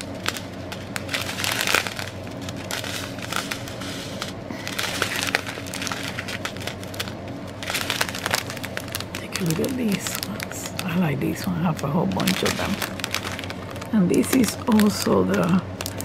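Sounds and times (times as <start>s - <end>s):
plastic bags crinkling: 0.0s - 16.0s
small crackles and clicks: 0.0s - 16.0s.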